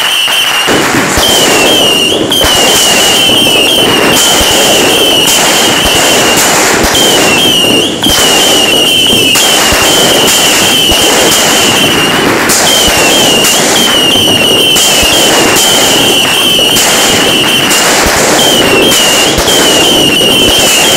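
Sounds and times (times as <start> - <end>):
fireworks crackling and popping: 0.0 - 20.9
high firework whistle: 0.0 - 20.9.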